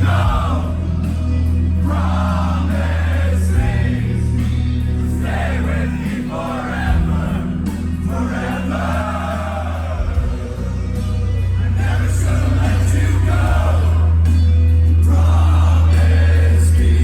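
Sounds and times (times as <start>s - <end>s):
crowd voices: 0.0s - 17.0s
live metal band playing: 0.0s - 17.0s
low bass notes: 0.0s - 17.0s
sung vocals: 0.0s - 17.0s.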